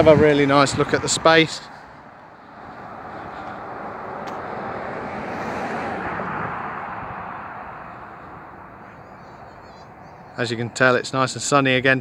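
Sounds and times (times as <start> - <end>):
vehicle passing: 0.0 - 12.0.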